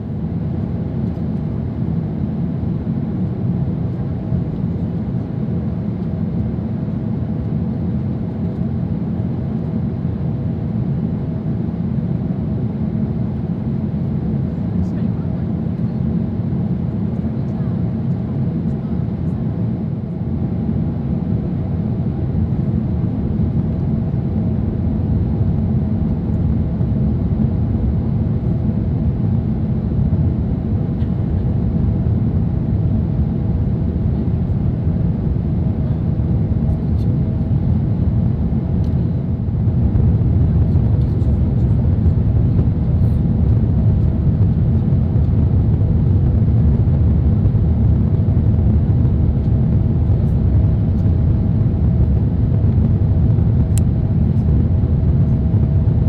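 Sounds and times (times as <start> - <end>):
aircraft cabin rumble: 0.0 - 56.0.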